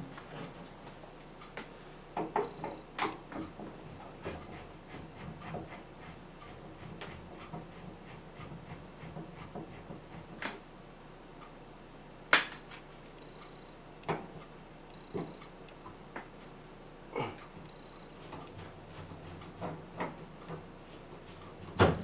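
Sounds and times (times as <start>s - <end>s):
fan parts clicking and knocking: 0.0s - 10.7s, 12.3s - 13.4s, 14.0s - 16.6s, 17.2s - 22.0s.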